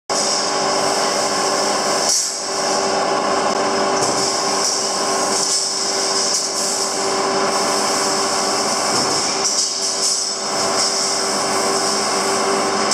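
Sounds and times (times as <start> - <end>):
mechanical workshop noise: 0.1 - 12.9.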